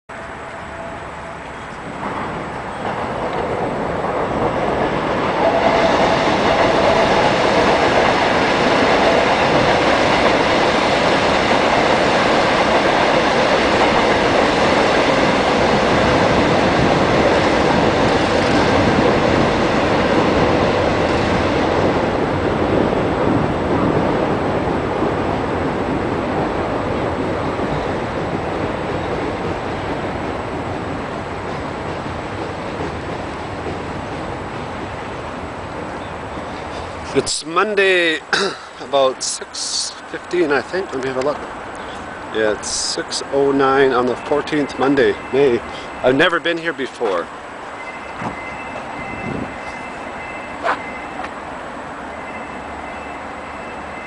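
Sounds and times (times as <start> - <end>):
electric train on tracks: 0.1 - 54.0.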